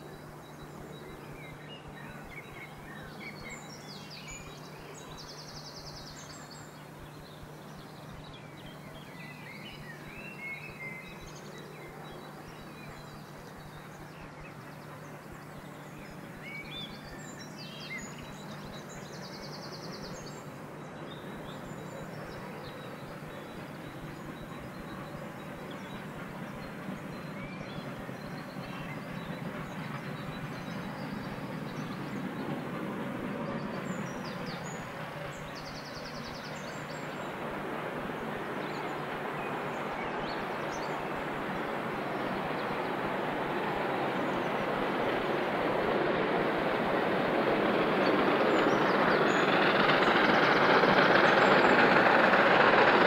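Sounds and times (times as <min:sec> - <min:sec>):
distant steam train rush: 0:00.0 - 0:53.0.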